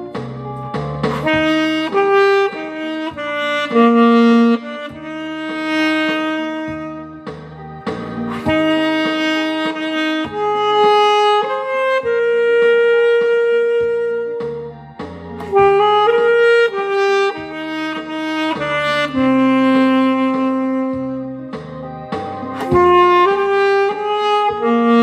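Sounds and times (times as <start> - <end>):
alto saxophone melody: 0.0 - 25.0
low accompaniment line: 0.0 - 25.0.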